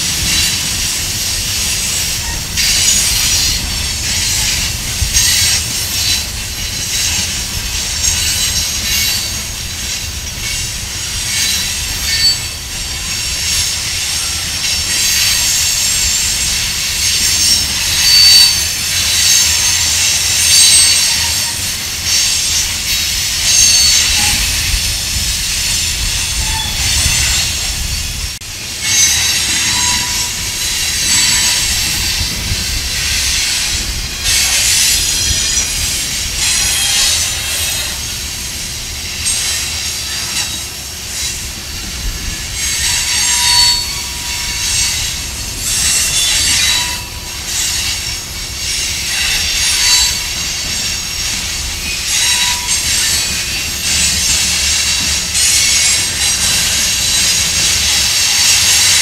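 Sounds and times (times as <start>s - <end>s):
freight train rolling past: 0.0s - 59.0s
wheels squealing on rails: 0.0s - 59.0s.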